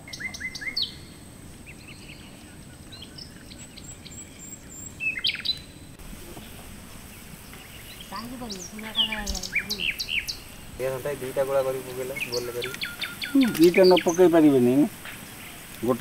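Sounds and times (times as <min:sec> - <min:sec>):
birds chirping: 0:00.0 - 0:16.0
low background noise: 0:00.0 - 0:16.0.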